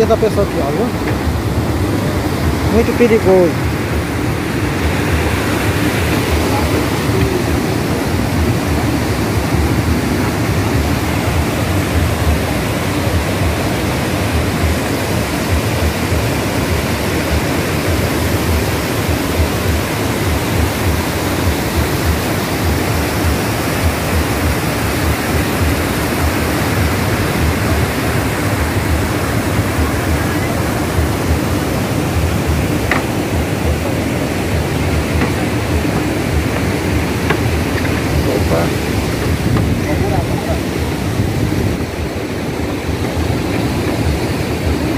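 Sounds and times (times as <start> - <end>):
water rushing from rapids: 0.0 - 44.9.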